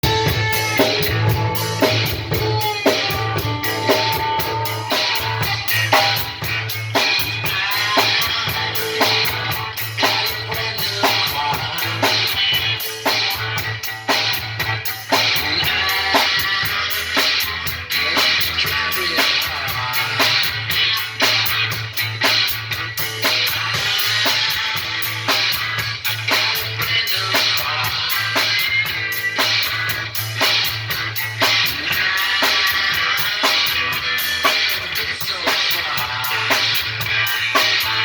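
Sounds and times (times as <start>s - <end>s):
drum kit beat: 0.0s - 38.0s
electric guitar: 0.0s - 38.0s.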